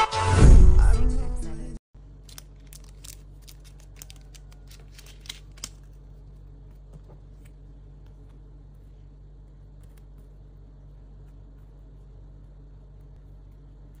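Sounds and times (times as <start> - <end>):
steady low hum: 0.5 - 14.0.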